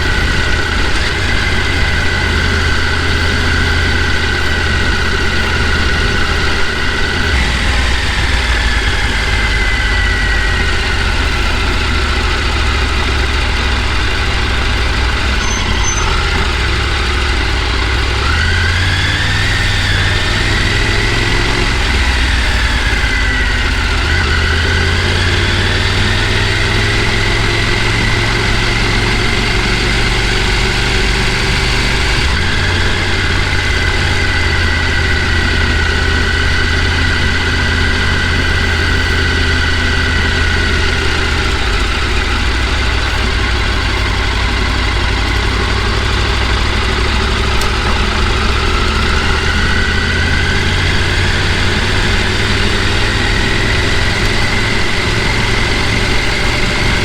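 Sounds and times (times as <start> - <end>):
faint high whine: 0.0 - 57.0
vehicle engine droning: 0.0 - 57.0.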